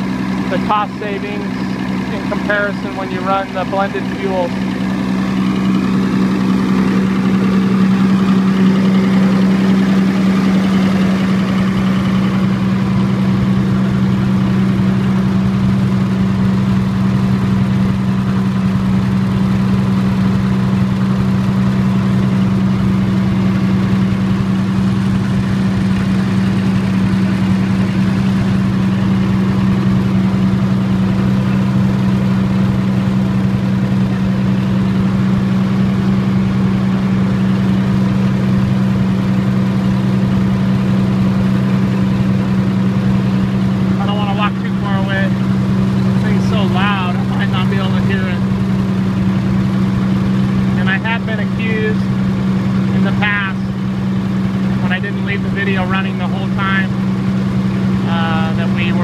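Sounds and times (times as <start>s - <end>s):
diesel generator engine hum: 0.0s - 59.0s.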